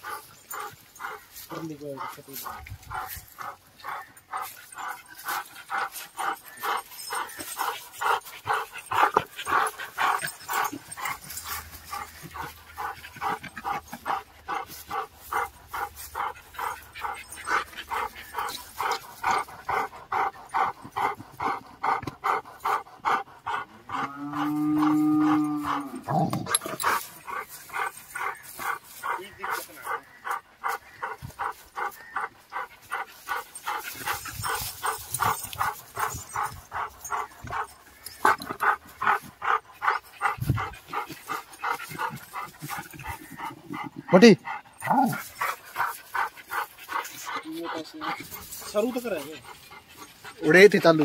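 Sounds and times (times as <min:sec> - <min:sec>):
dog panting: 0:00.0 - 0:51.0.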